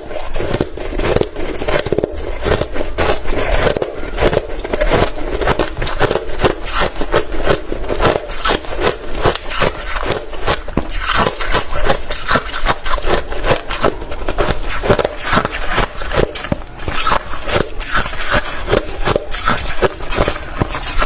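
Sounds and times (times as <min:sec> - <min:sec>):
chewing crushed ice: 0:00.0 - 0:21.0.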